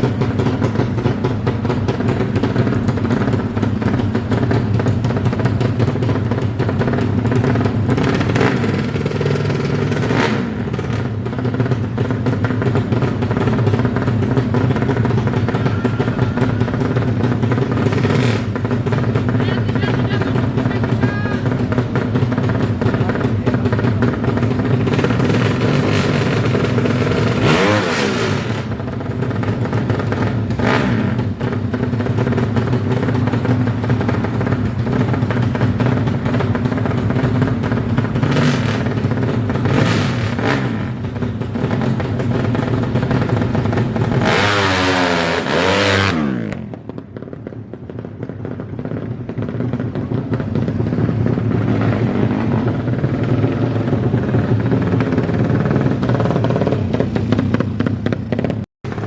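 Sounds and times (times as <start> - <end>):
motorcycle engines running loudly: 0.0 - 59.0.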